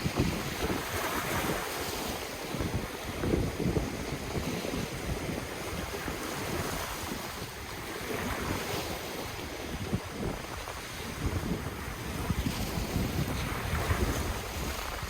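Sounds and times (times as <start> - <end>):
ocean waves washing ashore: 0.0 - 15.0
wind buffeting the microphone: 0.0 - 15.0.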